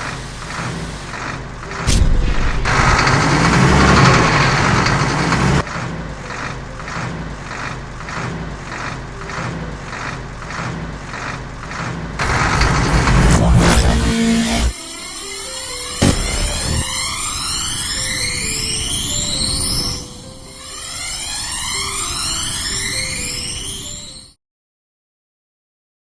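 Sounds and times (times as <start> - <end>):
cartoon truck engine and machinery: 0.0 - 24.4.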